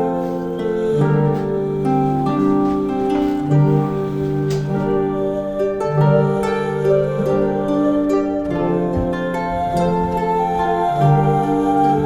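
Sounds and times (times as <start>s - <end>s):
calm harp-like music: 0.0s - 12.0s.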